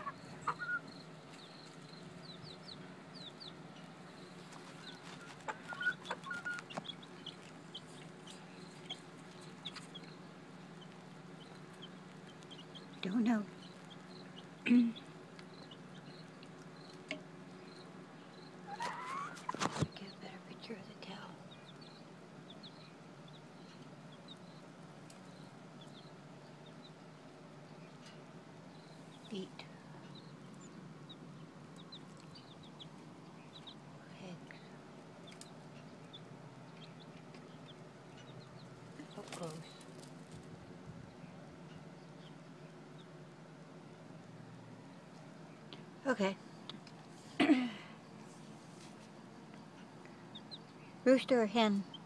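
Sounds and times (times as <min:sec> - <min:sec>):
chick peeping and clucking: 0:00.0 - 0:43.7, 0:49.5 - 0:52.0
steady low hum: 0:00.0 - 0:52.0.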